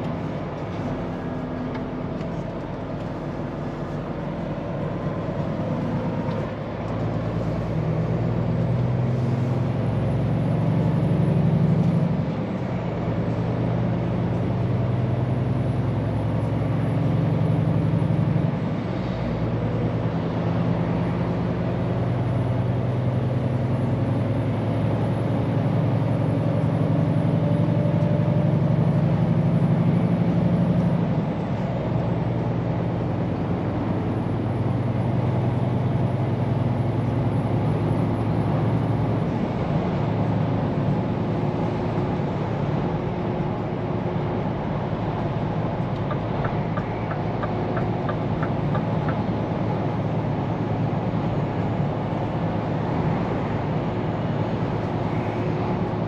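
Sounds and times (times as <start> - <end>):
truck diesel engine pulling: 0.0 - 56.0.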